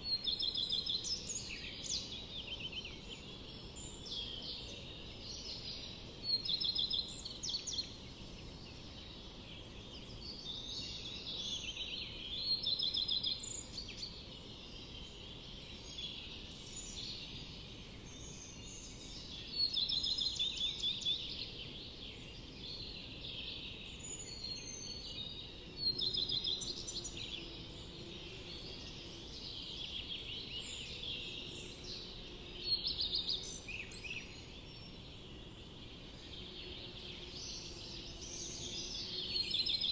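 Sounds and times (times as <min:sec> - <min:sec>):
low background hiss: 0:00.0 - 0:39.9
songbirds trilling: 0:00.0 - 0:39.9.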